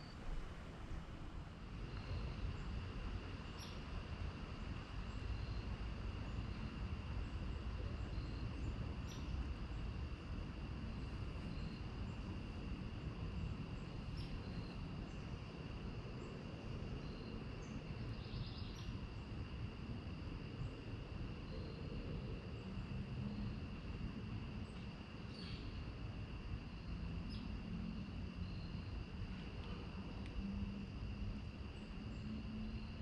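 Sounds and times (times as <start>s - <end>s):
high insect trill: 0.0s - 33.0s
steady low rumble: 0.0s - 33.0s.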